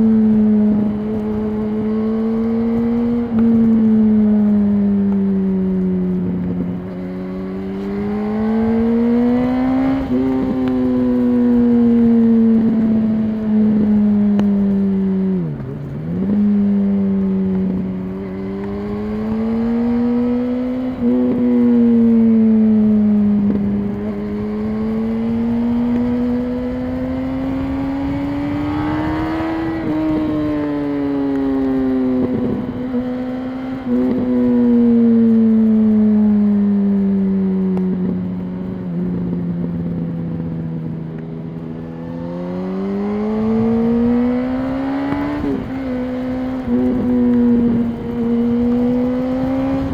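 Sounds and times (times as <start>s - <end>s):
gear changes: 0.0s - 49.9s
motorcycle engine revving: 0.0s - 49.9s.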